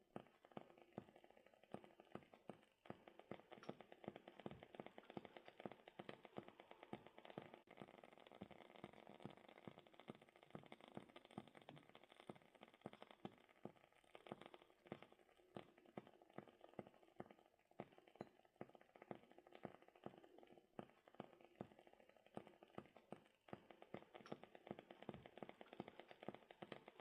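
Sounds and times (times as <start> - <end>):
wood fire crackling: 0.1 - 27.0.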